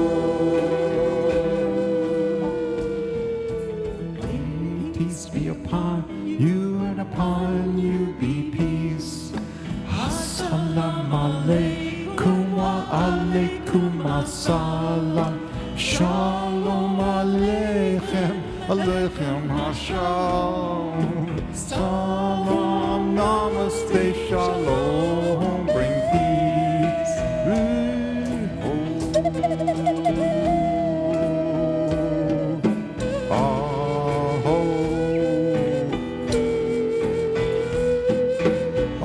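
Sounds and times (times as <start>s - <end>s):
live ensemble music: 0.0s - 39.0s
percussion hits: 0.0s - 39.0s.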